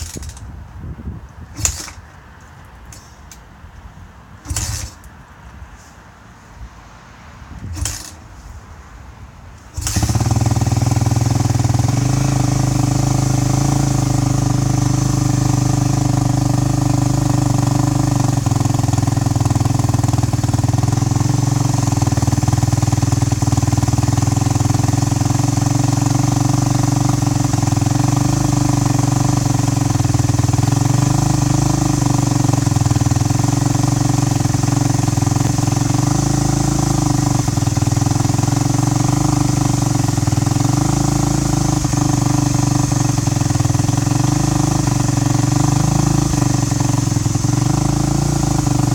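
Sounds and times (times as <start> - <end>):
motorcycle engine idling: 0.0 - 0.5, 9.8 - 48.9.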